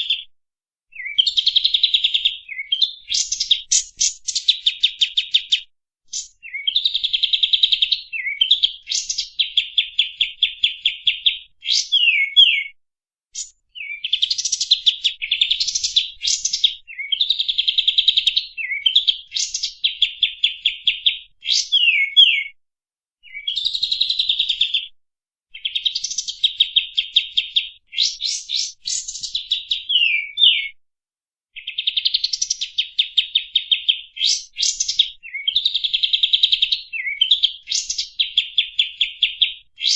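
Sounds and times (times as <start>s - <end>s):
songbird chattering song: 0.9s - 12.7s, 13.4s - 22.5s, 23.2s - 24.9s, 25.6s - 30.7s, 31.6s - 39.9s.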